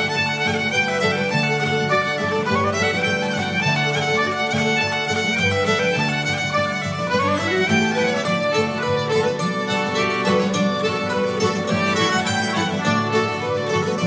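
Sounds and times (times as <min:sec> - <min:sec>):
fiddle melody: 0:00.0 - 0:14.0
plucked-string accompaniment: 0:00.0 - 0:14.0.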